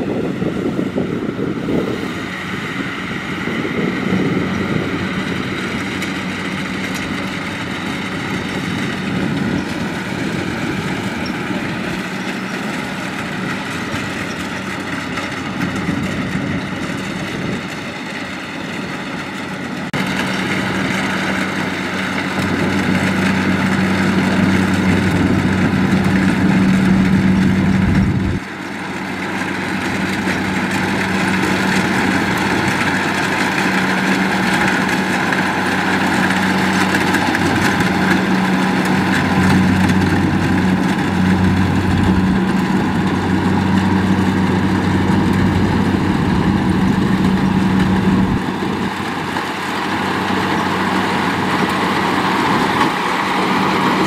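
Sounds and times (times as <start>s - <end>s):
diesel engine hum: 0.0s - 54.0s
harvesting machinery noise: 0.0s - 54.0s.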